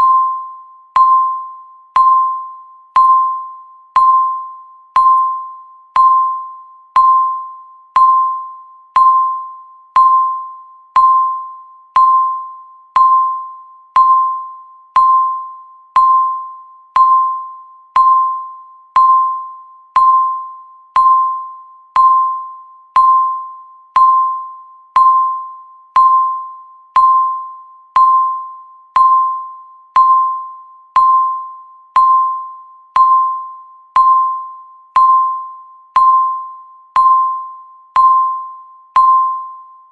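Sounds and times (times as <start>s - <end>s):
countdown timer beep: 0.0s - 39.9s.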